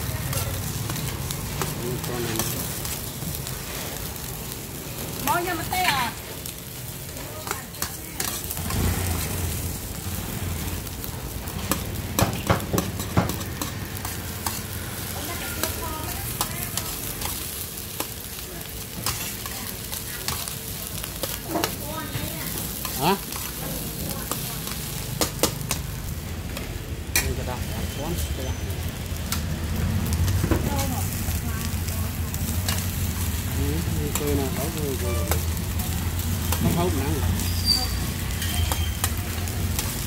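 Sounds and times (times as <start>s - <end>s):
food sizzling in a wok: 0.0s - 40.0s.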